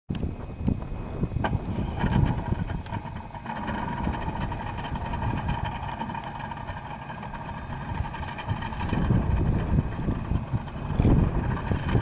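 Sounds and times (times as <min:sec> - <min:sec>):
outboard motor idling: 0:00.1 - 0:12.0.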